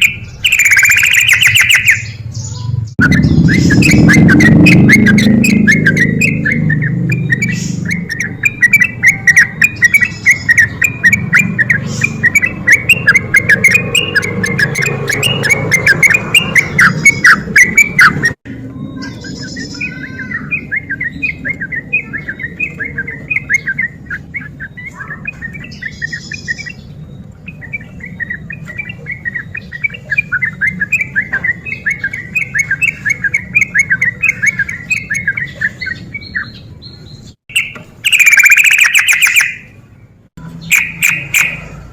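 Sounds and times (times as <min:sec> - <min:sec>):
bird singing chattering song: 0:00.0 - 0:41.9.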